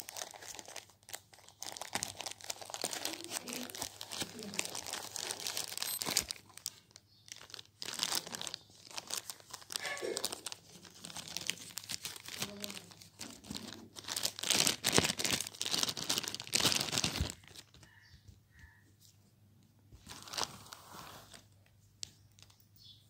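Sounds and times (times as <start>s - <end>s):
plastic wrapping crinkling: 0.0s - 18.0s, 20.0s - 22.8s.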